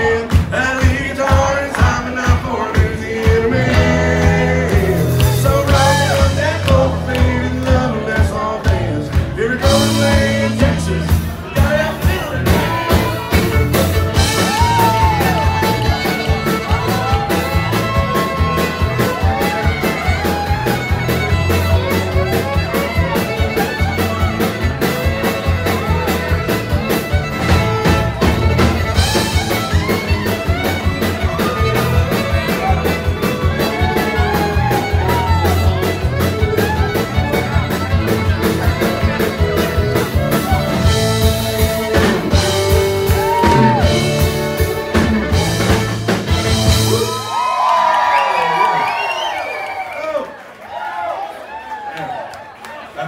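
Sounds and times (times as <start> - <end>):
country band playing: 0.0 - 50.1
fiddle melody: 3.3 - 47.1.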